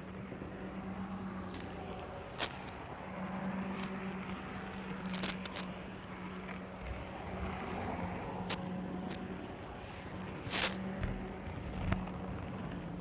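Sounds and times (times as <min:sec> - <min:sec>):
model train running on track: 0:00.0 - 0:13.0.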